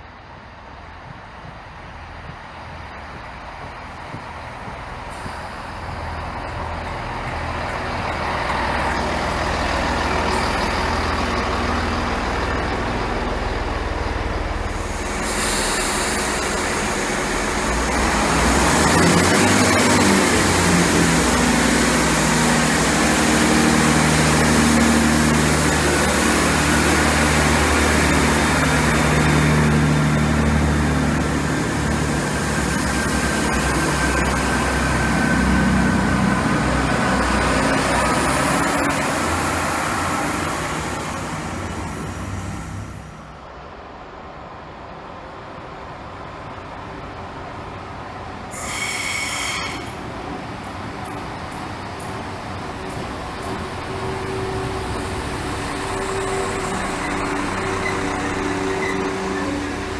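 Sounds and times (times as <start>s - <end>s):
diesel train engine running: 0.0s - 59.9s.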